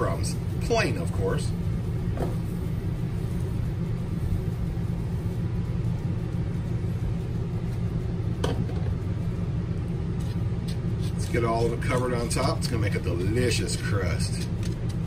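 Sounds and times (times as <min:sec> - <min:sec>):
machine rumbling: 0:00.0 - 0:15.0.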